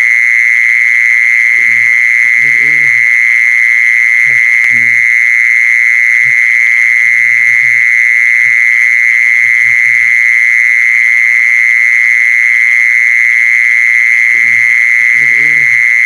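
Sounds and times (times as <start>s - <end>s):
low croak-like calls: 0.0s - 16.0s.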